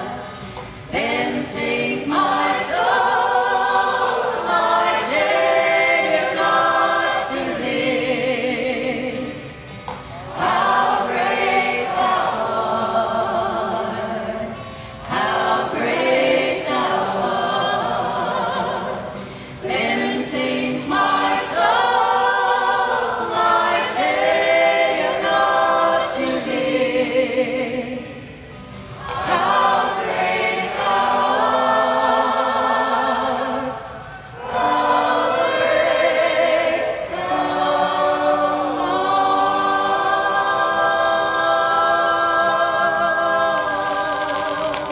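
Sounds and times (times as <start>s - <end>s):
group singing worship song: 0.0s - 44.9s.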